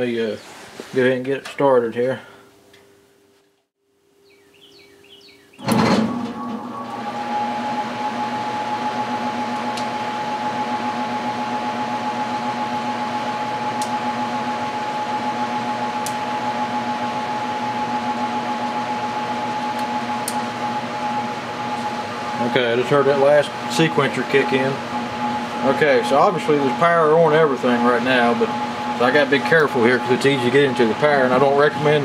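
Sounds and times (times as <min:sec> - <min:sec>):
electric furnace whirring: 0:04.1 - 0:32.0.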